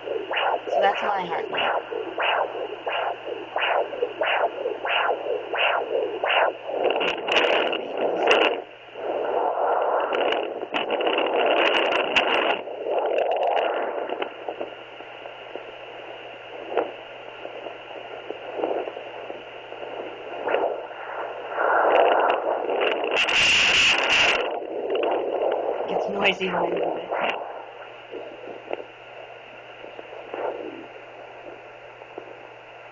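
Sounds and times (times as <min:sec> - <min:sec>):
doppler monitor static hiss: 0:00.0 - 0:32.9.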